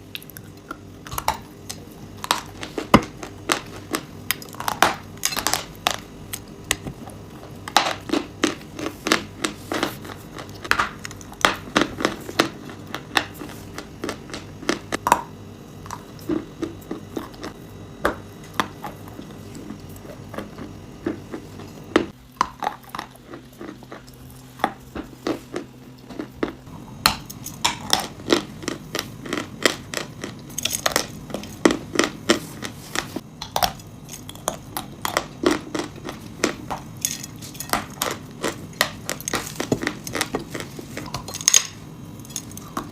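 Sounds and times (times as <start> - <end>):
crunching chewing: 0.1 - 42.9.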